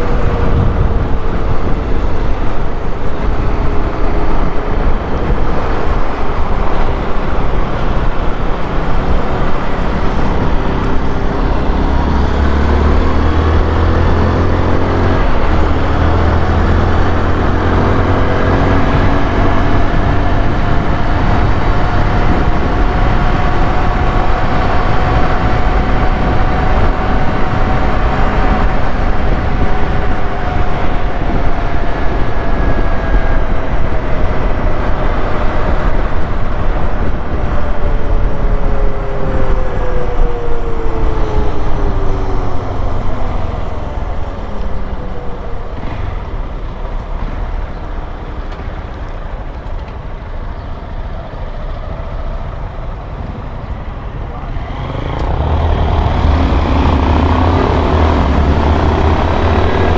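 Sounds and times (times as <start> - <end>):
motorcycle engine running: 0.0 - 53.2.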